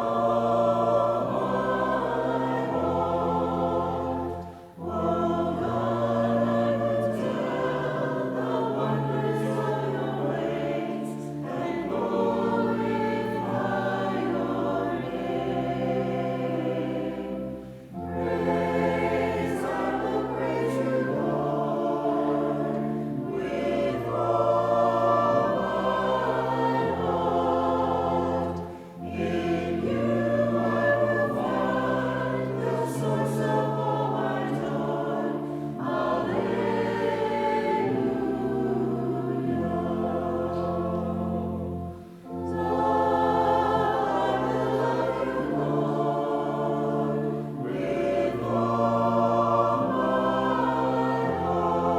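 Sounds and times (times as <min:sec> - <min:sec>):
congregation singing a hymn: 0:00.0 - 0:51.9.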